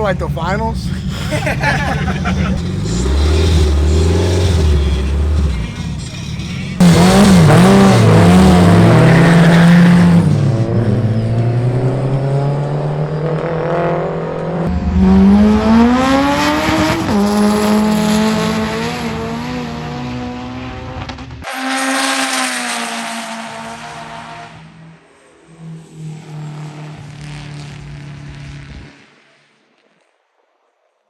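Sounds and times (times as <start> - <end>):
race car engines at full throttle: 0.0 - 29.9.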